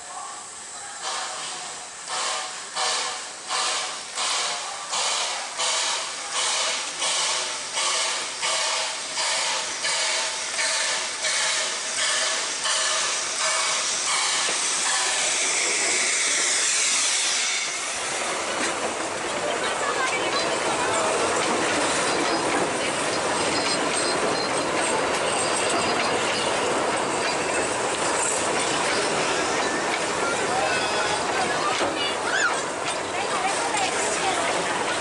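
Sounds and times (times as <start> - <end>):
carriages rolling on rails: 0.0 - 35.0
steam hissing: 0.0 - 35.0
steam locomotive chuffing: 0.0 - 35.0.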